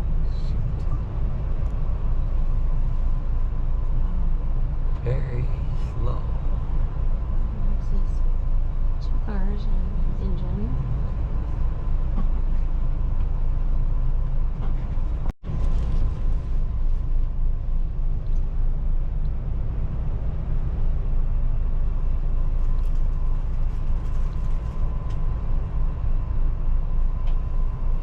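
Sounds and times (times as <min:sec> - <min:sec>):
vehicle noise rumble: 0:00.0 - 0:28.0.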